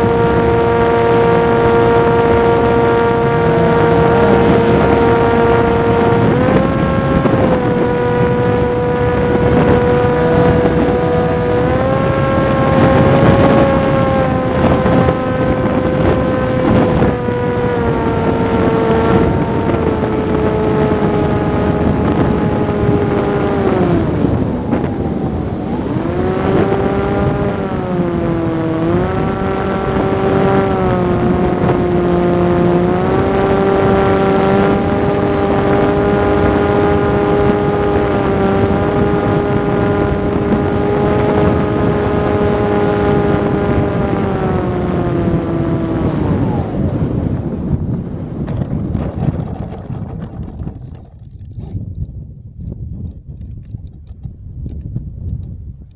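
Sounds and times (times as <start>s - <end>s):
electric motor and propeller whining: 0.0s - 52.2s
wind on microphone: 0.0s - 55.9s.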